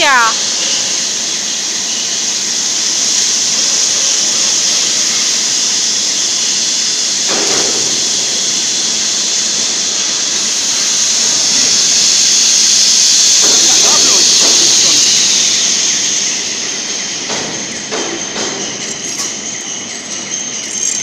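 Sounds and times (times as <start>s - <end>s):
arc welding hiss: 0.0s - 21.0s.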